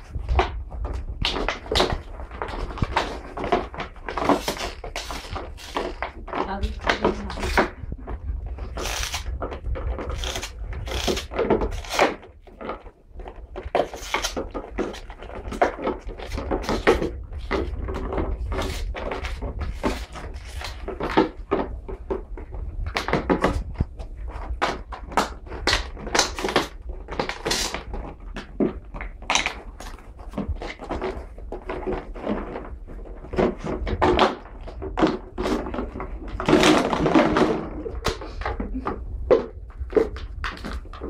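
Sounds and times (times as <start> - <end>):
household objects knocking and clattering: 0.0 - 41.0.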